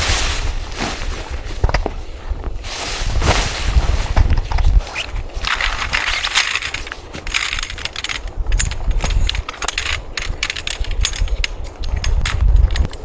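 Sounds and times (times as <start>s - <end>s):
snow crunching: 0.0s - 10.7s.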